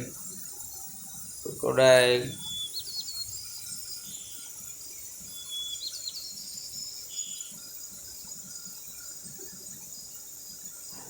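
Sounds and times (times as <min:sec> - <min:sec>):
high insect hum: 0:00.0 - 0:11.0.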